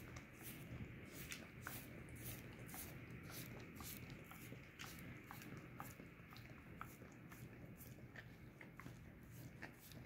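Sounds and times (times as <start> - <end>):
dog licking: 0.0 - 10.0.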